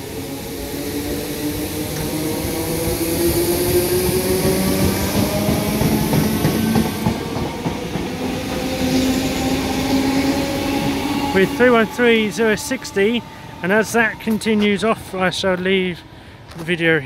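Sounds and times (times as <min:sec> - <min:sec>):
electric train motors whining: 0:00.0 - 0:16.6.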